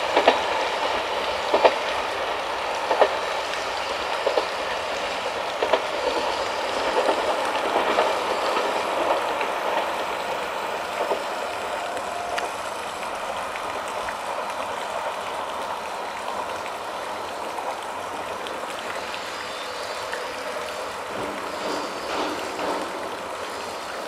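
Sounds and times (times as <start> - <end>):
diesel railcar on rails: 0.0 - 24.0
steady hiss: 0.0 - 24.0.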